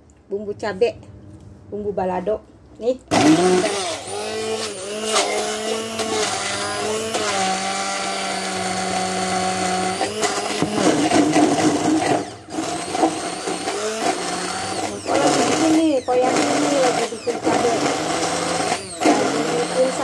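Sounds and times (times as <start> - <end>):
immersion blender chopping: 3.1 - 20.0.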